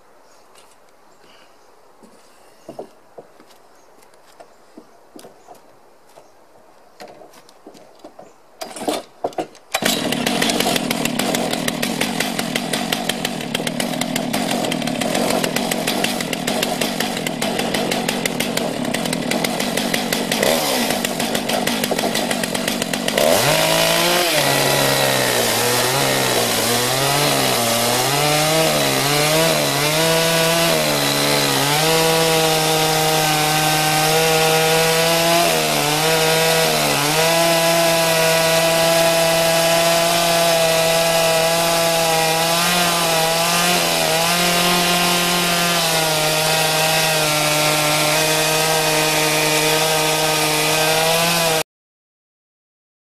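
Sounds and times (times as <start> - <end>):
chainsaw pull starts: 8.6 - 51.6
chainsaw cutting log: 8.6 - 51.7.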